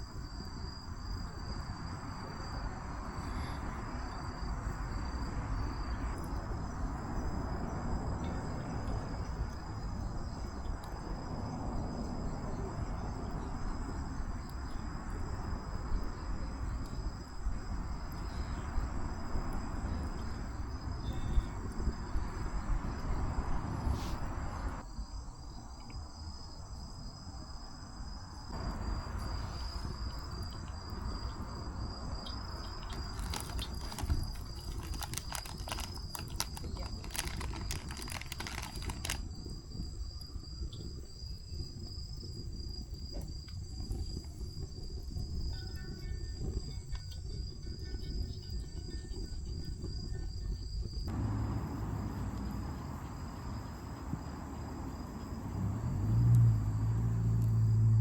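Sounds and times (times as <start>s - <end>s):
campfire crackling and hissing: 0.0s - 24.8s, 28.0s - 58.0s
crickets trilling: 0.0s - 58.0s.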